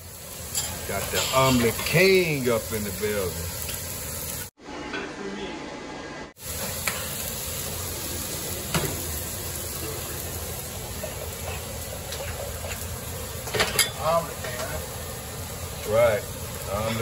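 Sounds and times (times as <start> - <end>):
kitchen hiss: 0.0 - 4.5, 6.4 - 17.0.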